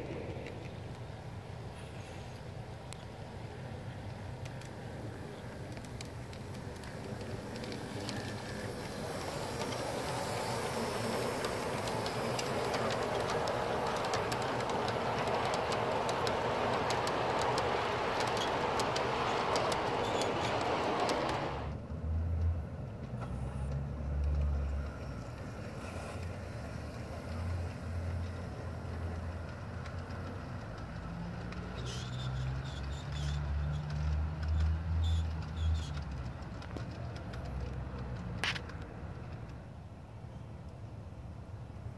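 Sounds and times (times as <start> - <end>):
model train wheels clattering: 0.0 - 21.8, 23.0 - 39.8.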